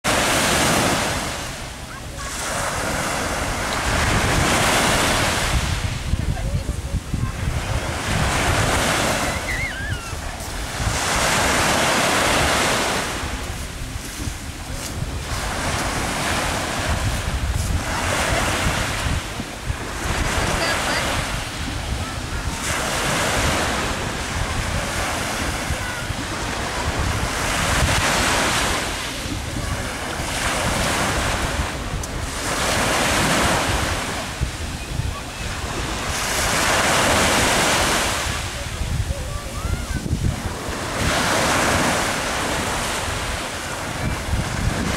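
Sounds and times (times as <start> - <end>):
small waves breaking on sand: 0.0 - 44.9
wind buffeting microphone: 0.1 - 44.9.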